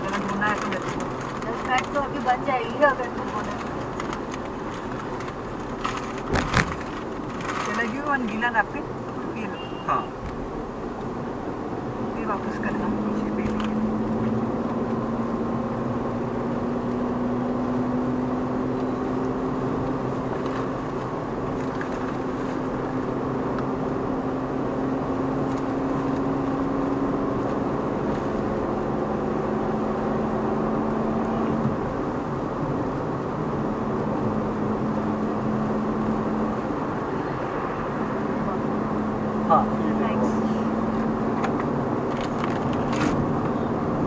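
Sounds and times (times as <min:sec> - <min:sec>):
car engine from inside cabin: 0:00.0 - 0:44.0.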